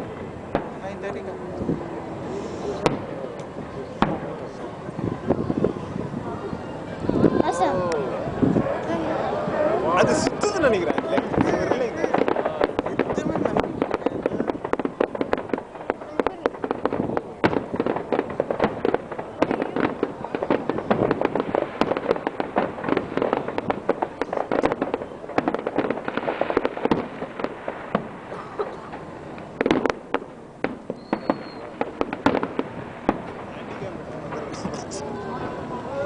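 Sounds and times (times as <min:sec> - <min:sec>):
fireworks bangs and crackling pops: 0:00.0 - 0:36.0.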